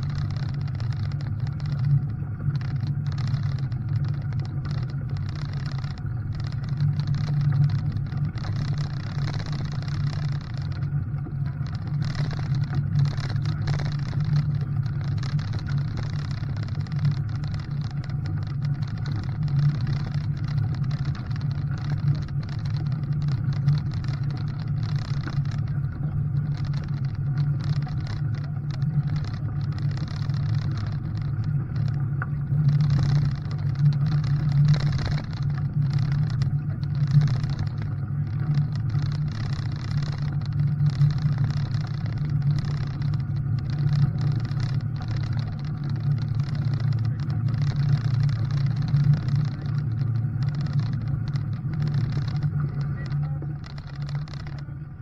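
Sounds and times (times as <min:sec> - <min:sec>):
rough noise: 0:00.0 - 0:55.0
vehicle engine droning: 0:00.0 - 0:55.0.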